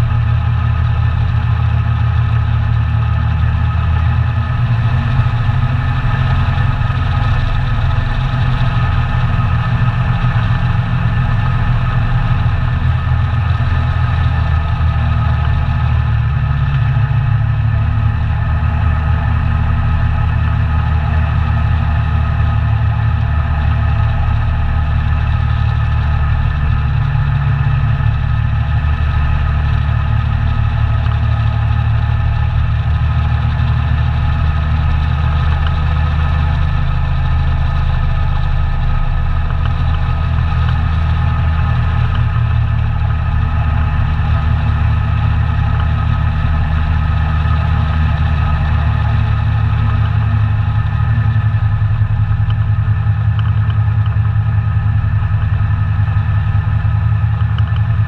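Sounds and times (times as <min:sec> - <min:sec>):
atv engine droning: 0:00.0 - 0:58.0.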